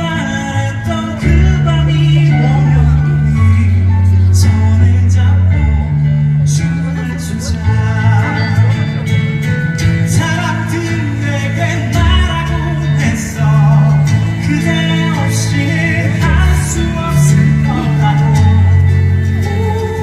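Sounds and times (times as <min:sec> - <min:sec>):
guitar and bass accompaniment: 0:00.0 - 0:20.0
man singing: 0:00.0 - 0:20.0.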